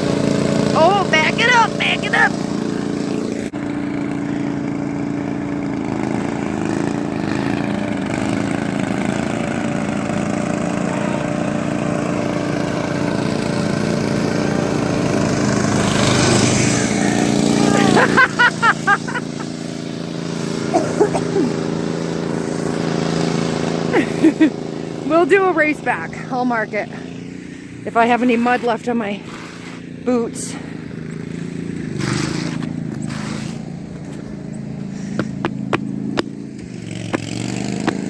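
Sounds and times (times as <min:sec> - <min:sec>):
riding lawn mower engine running: 0:00.0 - 0:38.0.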